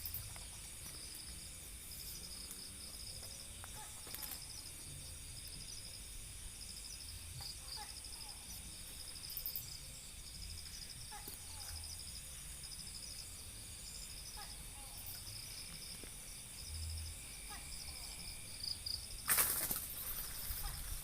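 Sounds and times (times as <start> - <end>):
faint low rumble: 0.0 - 19.2
crickets chirping: 0.0 - 21.0.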